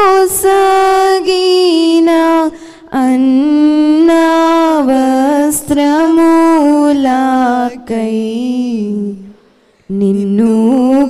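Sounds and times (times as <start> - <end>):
woman singing into a microphone: 0.0 - 11.0.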